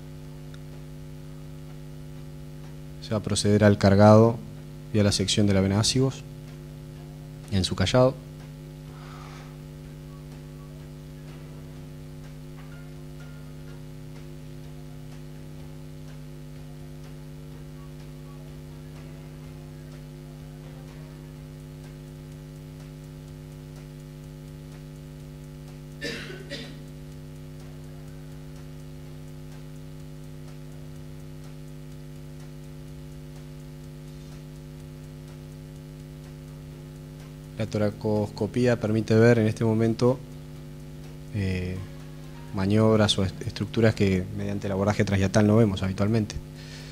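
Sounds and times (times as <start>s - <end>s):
electrical mains hum: 0.0s - 46.9s.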